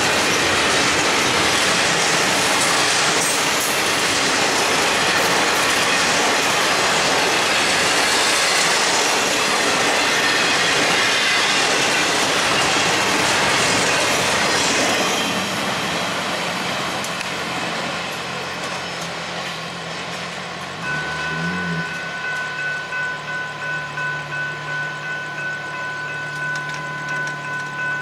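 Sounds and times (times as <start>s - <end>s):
railroad crossing warning bell: 0.0s - 16.2s, 18.0s - 28.0s
freight train wheels on rails: 0.0s - 28.0s.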